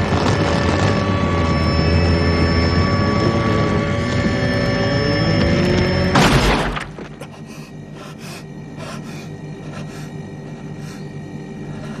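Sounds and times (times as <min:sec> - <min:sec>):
low tense drone: 0:00.0 - 0:12.0.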